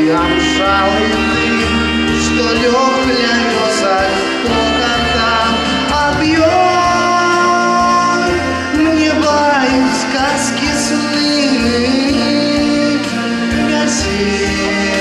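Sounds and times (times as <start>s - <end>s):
song with gliding melody: 0.0s - 15.0s.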